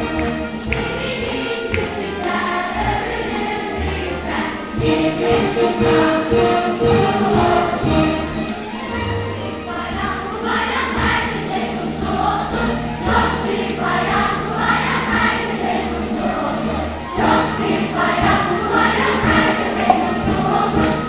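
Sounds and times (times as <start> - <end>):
children's choir singing: 0.0 - 21.0
low instrumental accompaniment: 0.0 - 21.0.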